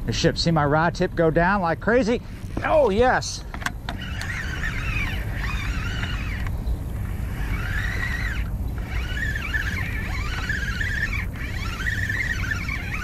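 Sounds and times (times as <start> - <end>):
wind rumbling on microphone: 0.0 - 13.0
fishing reel gear whine: 1.8 - 13.0.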